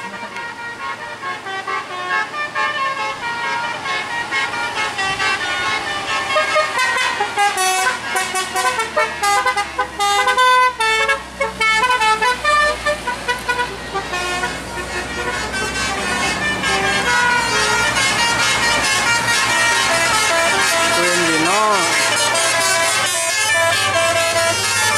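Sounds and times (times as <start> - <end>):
multi-tone bus horn melody: 0.0 - 24.9.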